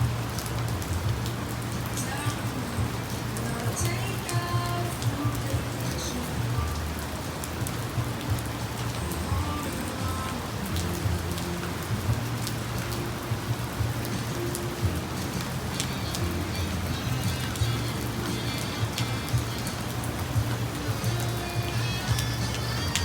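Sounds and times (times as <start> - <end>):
raindrops clicking nearby: 0.0 - 23.0
steady rain falling: 0.0 - 23.0.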